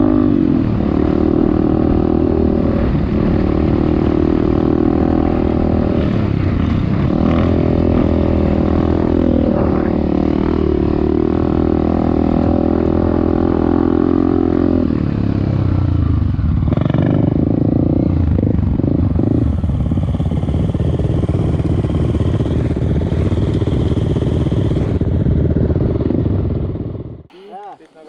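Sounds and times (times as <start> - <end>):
off-road motorcycle engine revving: 0.0 - 28.0.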